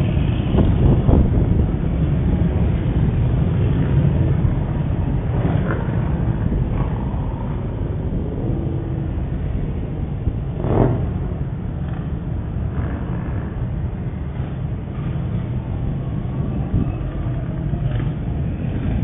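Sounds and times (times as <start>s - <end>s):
traffic engines rumbling: 0.0s - 19.0s.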